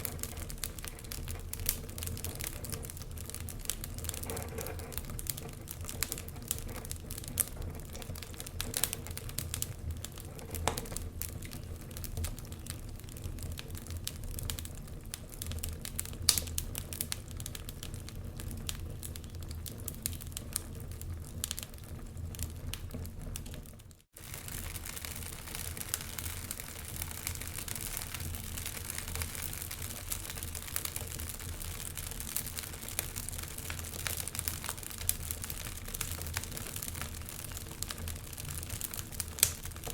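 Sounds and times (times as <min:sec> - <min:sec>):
low fire hiss: 0:00.0 - 0:39.9
wood fire crackling and popping: 0:00.0 - 0:39.9.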